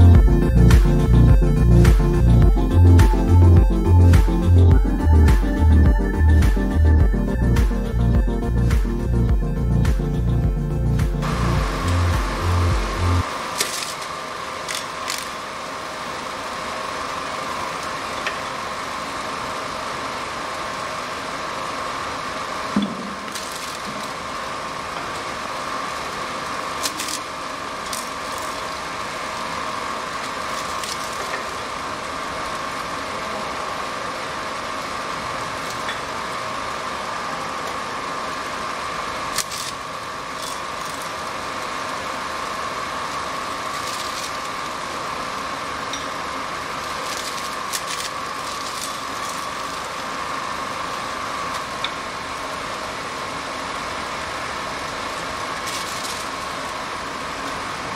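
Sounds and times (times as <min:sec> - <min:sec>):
high machine whine: 0:00.0 - 0:57.9
labeling machine hum: 0:00.0 - 0:57.9.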